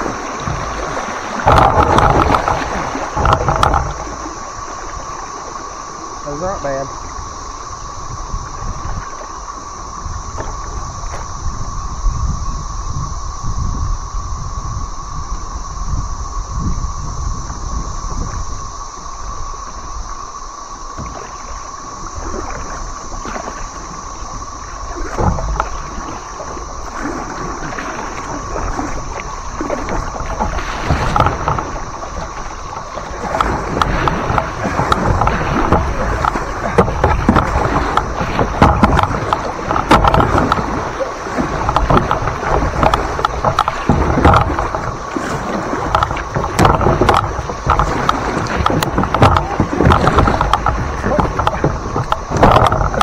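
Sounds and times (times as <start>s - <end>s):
paddle strokes: 0.0s - 12.6s, 16.4s - 53.0s
water splashing around hull: 0.0s - 53.0s.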